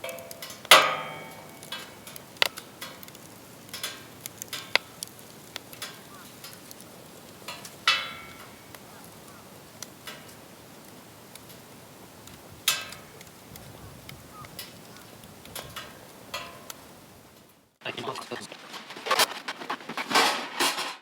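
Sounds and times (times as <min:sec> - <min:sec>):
campfire crackling and popping: 0:00.0 - 0:20.2.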